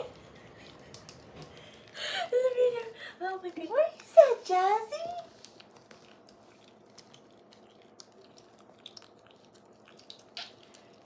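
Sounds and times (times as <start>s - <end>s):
dog chewing and licking: 0.0s - 2.0s, 3.4s - 11.0s.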